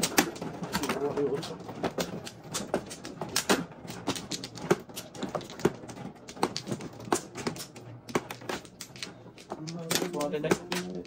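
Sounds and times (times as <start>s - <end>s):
mahjong tiles clicking: 0.0s - 11.0s.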